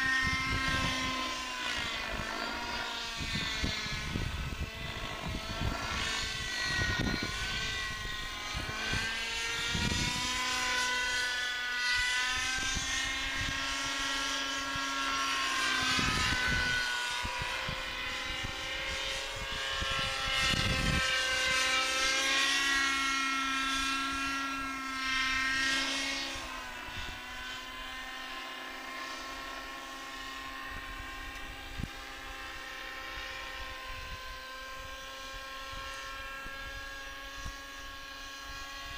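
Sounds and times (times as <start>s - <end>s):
model helicopter rotor whine: 0.0s - 38.9s
wind rumble on microphone: 0.0s - 38.9s.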